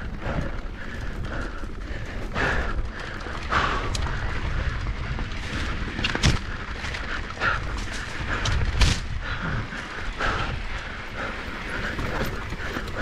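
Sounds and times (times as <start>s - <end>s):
bike knocks and rattles: 0.0s - 9.6s, 10.2s - 13.0s
bike tyre noise: 0.0s - 13.0s
wind rumble on microphone: 0.0s - 13.0s.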